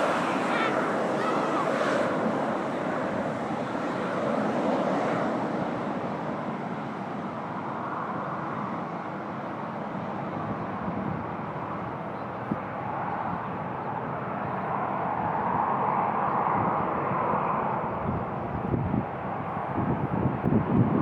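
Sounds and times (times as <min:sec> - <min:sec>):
aircraft engine rushing: 0:00.0 - 0:21.0.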